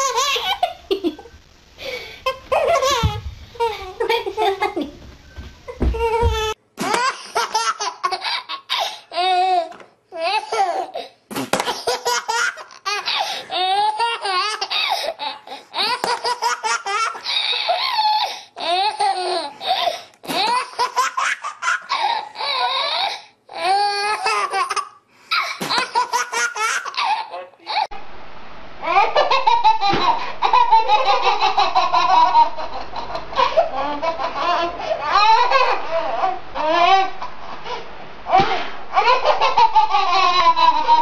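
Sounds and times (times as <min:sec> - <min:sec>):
baby laughing: 0:00.0 - 0:01.3, 0:02.3 - 0:04.8, 0:05.9 - 0:19.4, 0:20.2 - 0:27.9, 0:28.8 - 0:37.3, 0:38.3 - 0:41.0.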